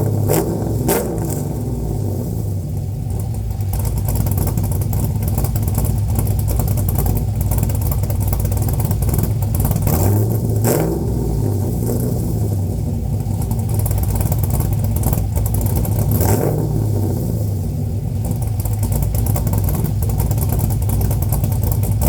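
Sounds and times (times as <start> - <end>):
engine deep rumble: 0.0 - 22.0.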